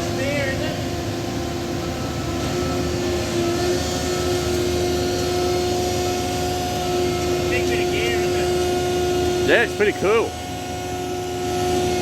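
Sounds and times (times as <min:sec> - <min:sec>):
heavy machinery engine droning: 0:00.0 - 0:12.0.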